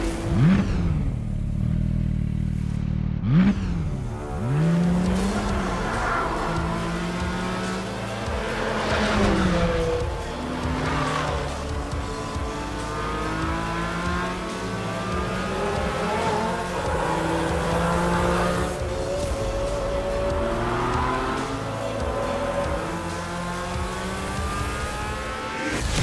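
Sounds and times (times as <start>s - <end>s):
music: 0.0s - 1.7s, 3.5s - 26.0s
car engine revving hard: 3.2s - 25.9s.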